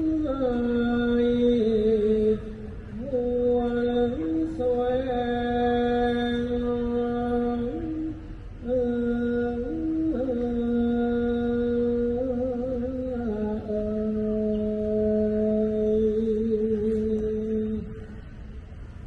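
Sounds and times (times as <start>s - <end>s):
person chanting long held notes: 0.0s - 18.3s.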